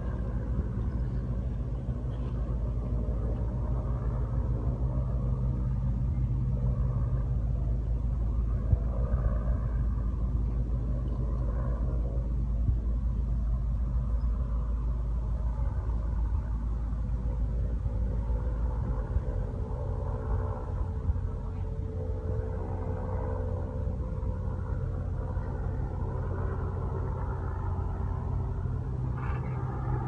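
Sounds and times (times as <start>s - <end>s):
faint engine drone: 0.0s - 30.0s
wind buffeting microphone: 0.0s - 30.0s.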